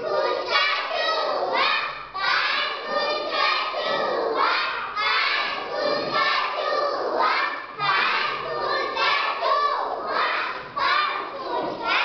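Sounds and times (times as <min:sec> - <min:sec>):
children shouting and chanting: 0:00.0 - 0:12.0.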